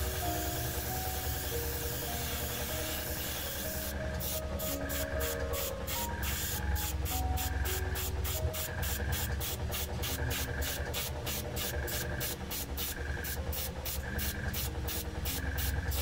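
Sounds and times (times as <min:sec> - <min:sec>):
airbrush spraying: 0:00.0 - 0:16.0
slow background music: 0:00.0 - 0:16.0.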